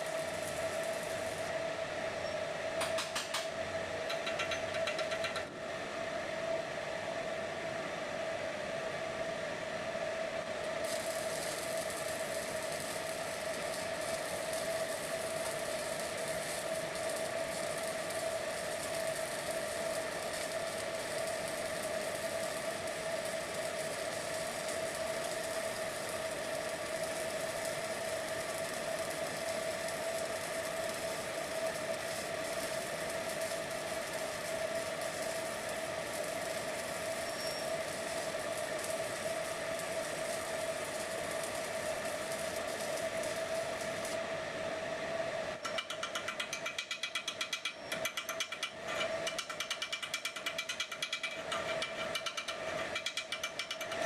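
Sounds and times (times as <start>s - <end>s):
machinery hum: 0.0s - 49.9s.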